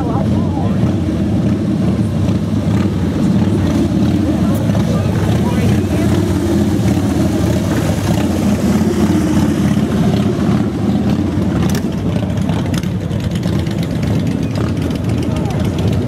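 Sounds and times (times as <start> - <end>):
motorcycle engines droning: 0.0 - 16.0.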